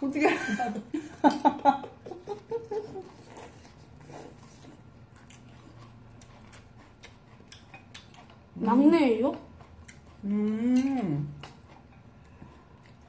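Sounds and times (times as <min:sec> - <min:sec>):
noodles slurped and chewed: 0:02.3 - 0:13.0.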